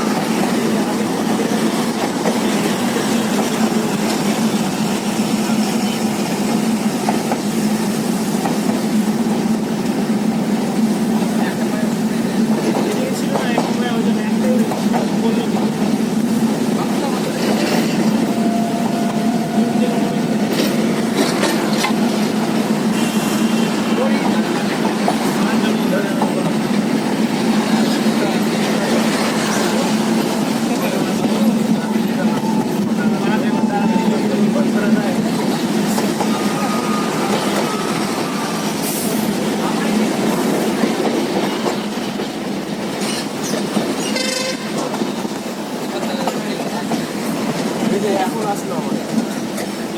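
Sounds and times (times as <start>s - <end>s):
train rumble inside carriage: 0.0s - 49.9s.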